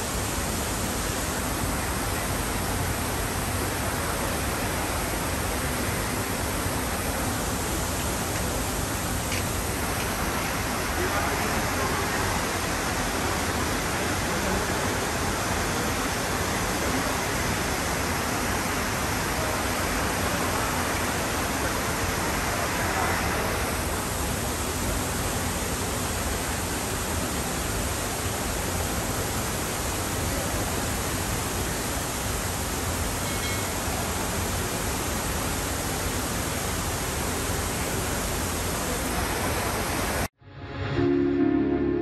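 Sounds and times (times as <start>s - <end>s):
fountain water rushing and splashing: 0.0s - 40.3s.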